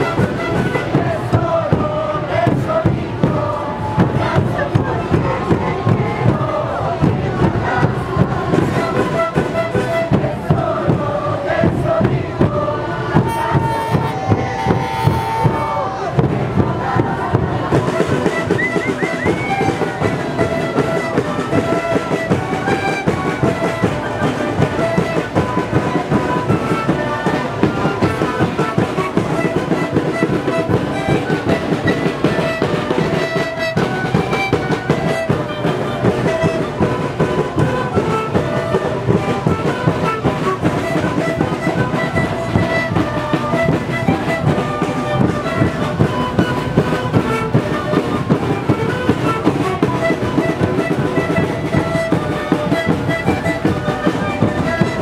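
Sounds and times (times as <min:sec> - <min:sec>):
flutes and panpipes melody: 0:00.0 - 0:55.0.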